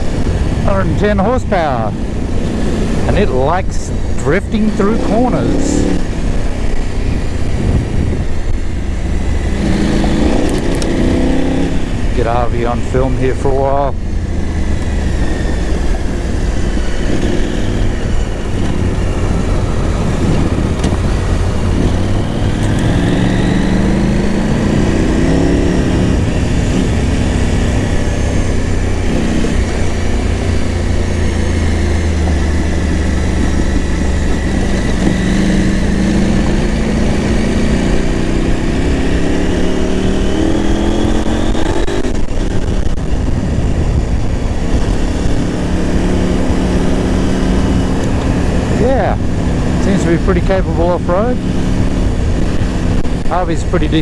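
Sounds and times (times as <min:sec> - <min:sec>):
motorcycle engine revving: 0:00.0 - 0:54.0
wind noise: 0:05.9 - 0:12.8, 0:13.9 - 0:54.0.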